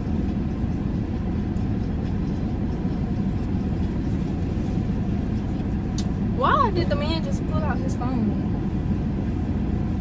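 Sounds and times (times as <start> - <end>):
car wash rumble inside car: 0.0 - 10.0.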